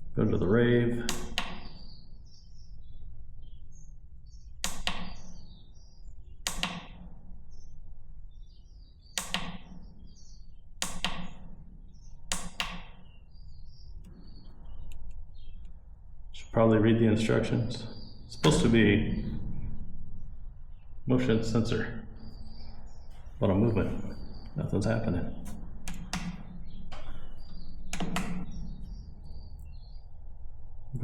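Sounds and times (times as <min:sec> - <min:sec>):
faint bird chirps: 0:00.0 - 0:31.0.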